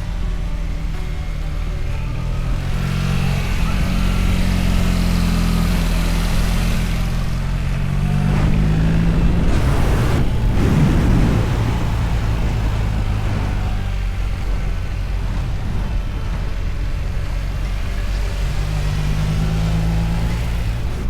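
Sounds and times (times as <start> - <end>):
motorcycle engine running: 0.0 - 21.0
rushing noise: 2.4 - 21.0.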